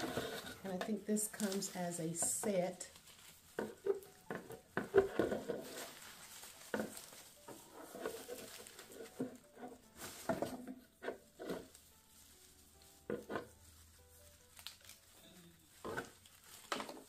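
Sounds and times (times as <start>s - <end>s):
artificial flower stems rustling: 0.0s - 17.0s.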